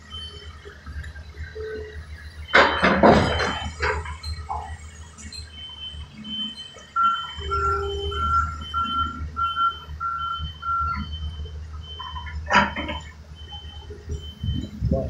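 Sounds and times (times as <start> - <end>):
reversing alarm beeping: 0.0 - 15.0.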